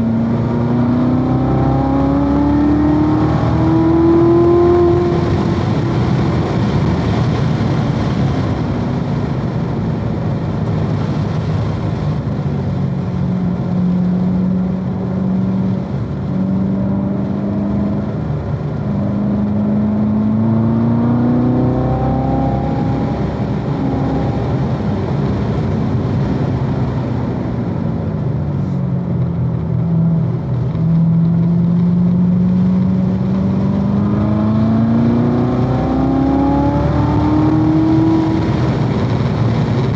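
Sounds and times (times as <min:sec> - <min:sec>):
sports car engine revving: 0:00.0 - 0:08.7, 0:09.3 - 0:39.9.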